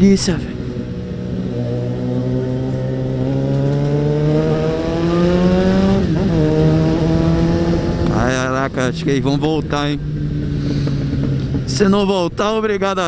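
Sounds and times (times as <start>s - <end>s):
motorcycle engine accelerating: 0.0s - 12.6s.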